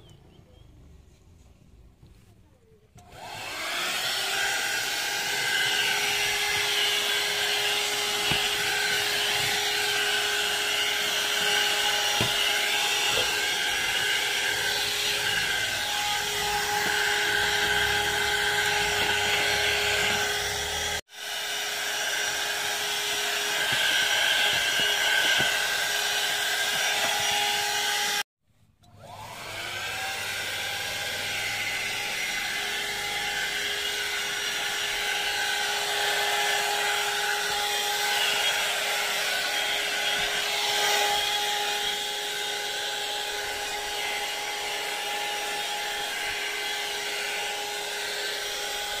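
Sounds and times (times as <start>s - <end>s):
handheld vacuum cleaner running: 3.0s - 49.0s.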